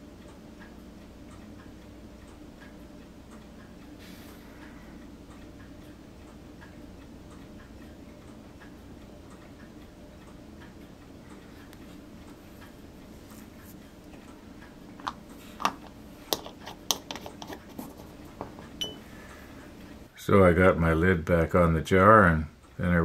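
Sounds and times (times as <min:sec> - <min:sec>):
faint regular ticking: 0:00.0 - 0:23.0
low room hum: 0:00.0 - 0:23.0.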